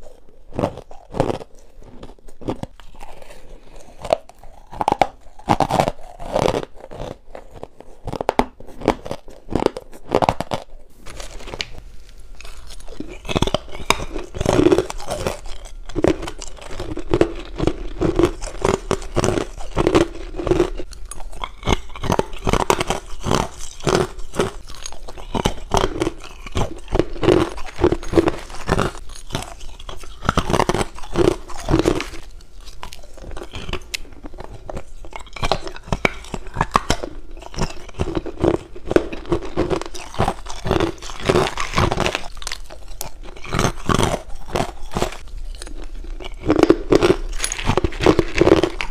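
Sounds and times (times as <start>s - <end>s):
chewing crushed ice: 0.0s - 48.9s.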